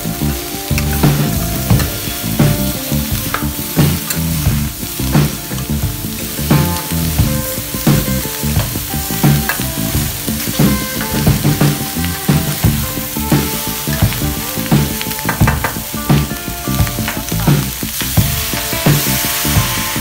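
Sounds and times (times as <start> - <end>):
chicken sizzling in a wok: 0.0 - 20.0
spatula and tongs scraping a wok: 0.0 - 20.0.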